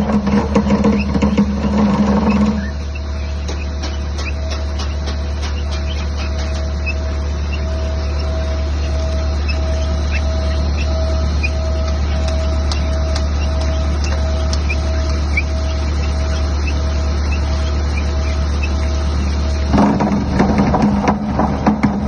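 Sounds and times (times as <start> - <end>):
mortar pump motor humming: 0.0 - 22.0.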